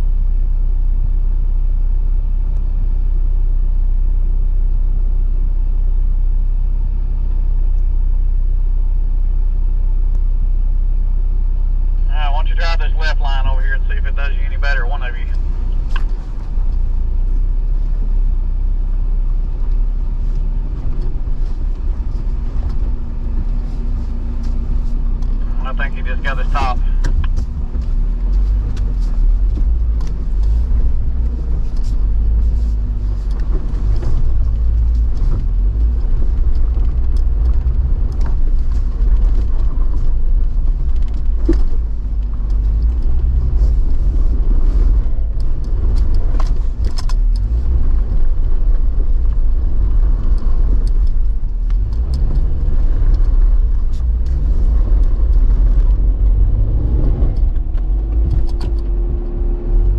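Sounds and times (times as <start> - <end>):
vehicle engine low rumble: 0.0 - 59.9.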